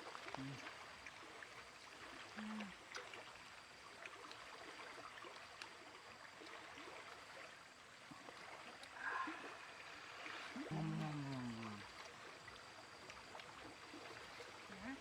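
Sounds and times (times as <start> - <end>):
faint running water: 0.0 - 15.0.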